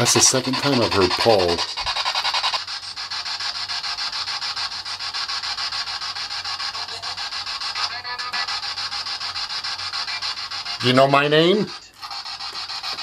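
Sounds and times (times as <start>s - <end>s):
pulsing radio static: 0.0s - 13.0s.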